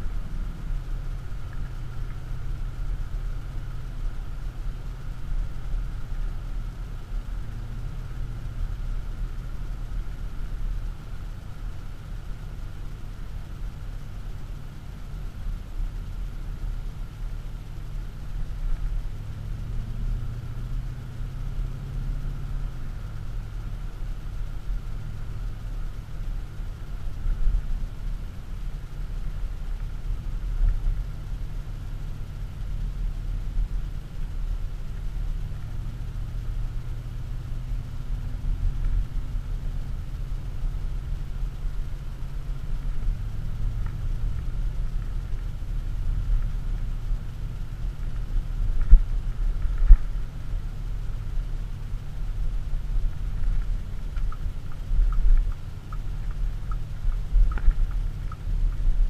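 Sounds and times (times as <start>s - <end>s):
diesel engine low rumble: 0.0s - 59.0s
road noise: 0.0s - 59.0s
turn signal ticking: 0.0s - 59.0s.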